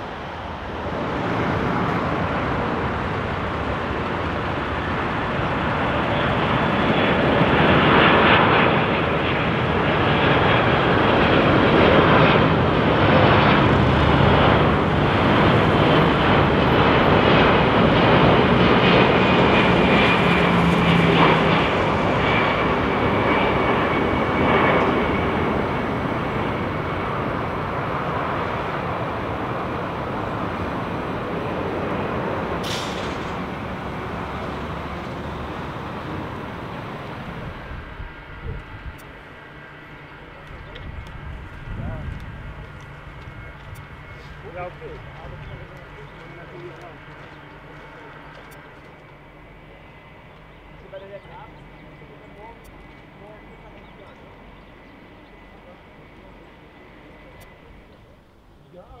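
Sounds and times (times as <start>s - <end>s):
jet engines rushing overhead: 0.0s - 59.0s.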